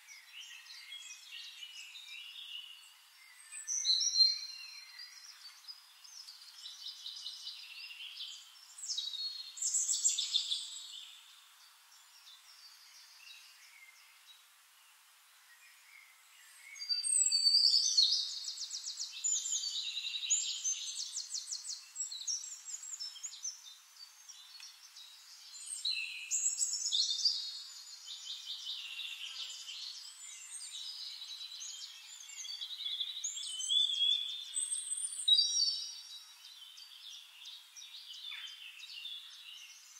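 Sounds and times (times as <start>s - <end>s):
songbirds trilling and warbling: 0.0s - 39.9s.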